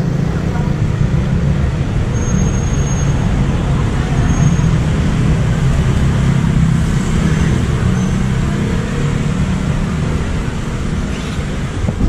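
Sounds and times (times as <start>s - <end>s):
road noise: 0.0s - 12.0s
vehicle engines humming: 0.0s - 12.0s.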